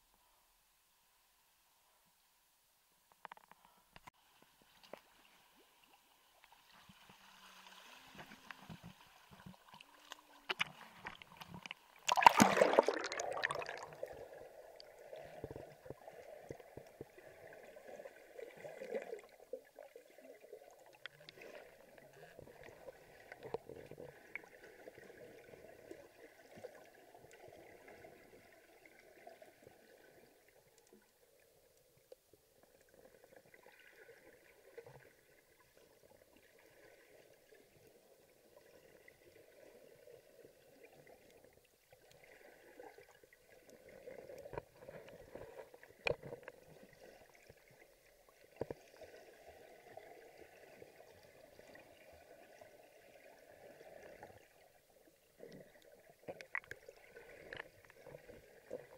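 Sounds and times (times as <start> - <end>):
faint underwater water noise: 0.0 - 58.9.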